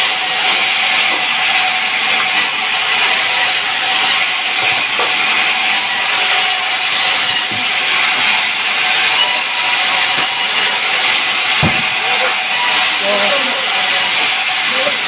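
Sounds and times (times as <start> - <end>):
saw cutting wood: 0.0 - 15.0.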